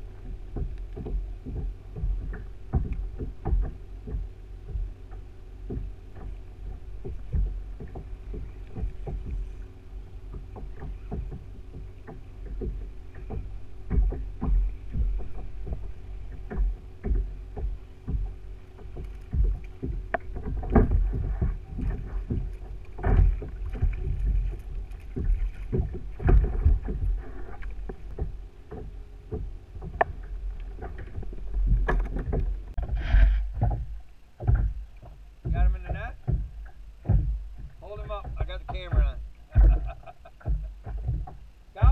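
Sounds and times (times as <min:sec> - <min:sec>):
water sloshing: 0:00.0 - 0:41.9
wind rumble on microphone: 0:00.0 - 0:41.9
knocks on kayak hull: 0:00.2 - 0:09.6, 0:10.3 - 0:41.9.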